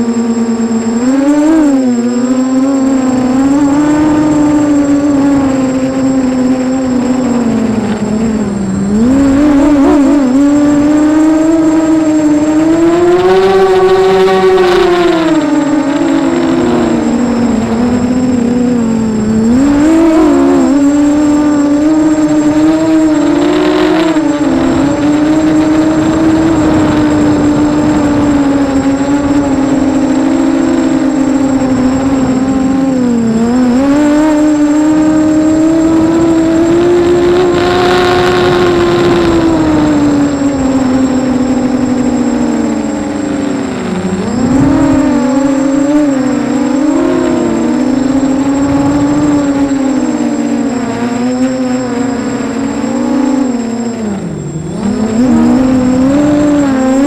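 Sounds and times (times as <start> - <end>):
quadcopter motors whining: 0.0 - 57.0.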